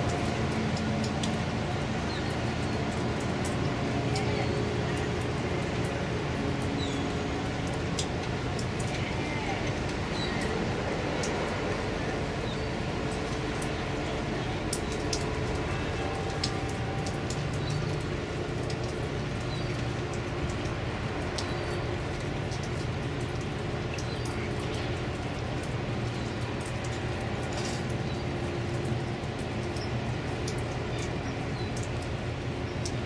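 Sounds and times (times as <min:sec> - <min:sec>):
low diesel drone: 0:00.0 - 0:33.0.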